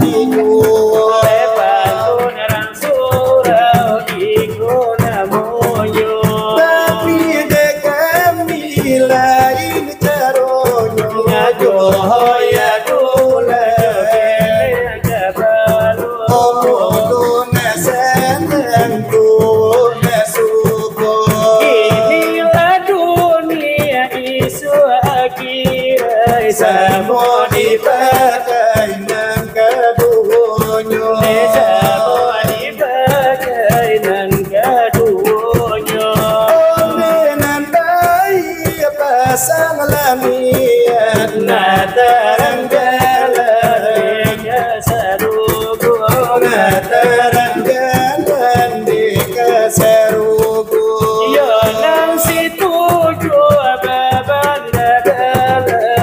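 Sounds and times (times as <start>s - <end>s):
fingers beating on brass trays: 0.0s - 56.0s
men singing a devotional chant: 0.0s - 56.0s.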